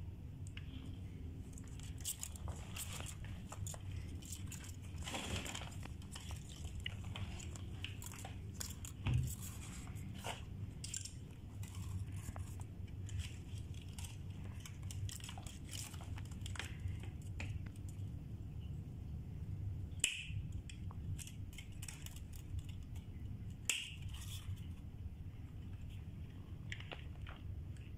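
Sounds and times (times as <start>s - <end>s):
steady low hum: 0.0s - 27.9s
small clicks and crinkles: 0.3s - 18.8s, 19.8s - 27.9s.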